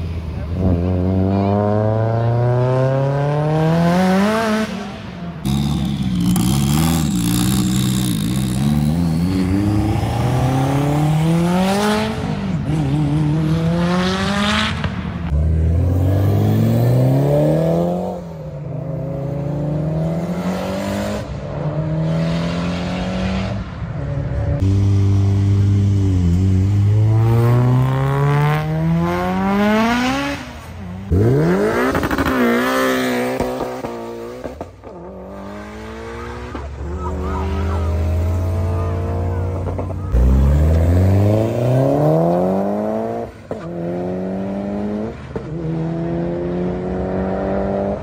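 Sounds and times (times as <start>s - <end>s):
car engines accelerating: 0.0s - 48.0s.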